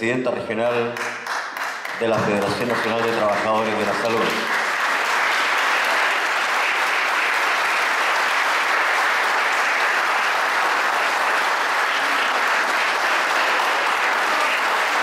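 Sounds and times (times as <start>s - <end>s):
audience applauding: 0.6s - 15.0s.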